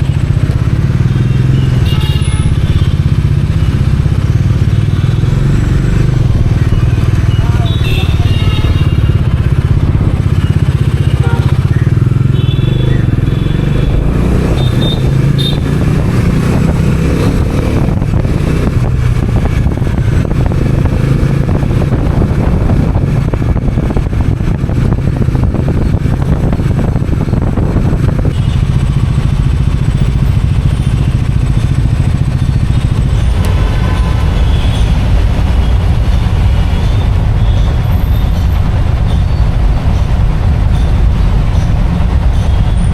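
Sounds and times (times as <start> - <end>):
motorcycle engine running: 0.0 - 42.9
road and wind noise: 0.0 - 42.9.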